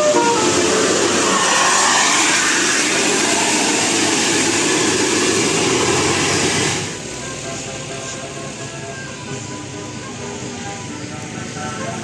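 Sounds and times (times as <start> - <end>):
bus passing close by: 0.0 - 12.0.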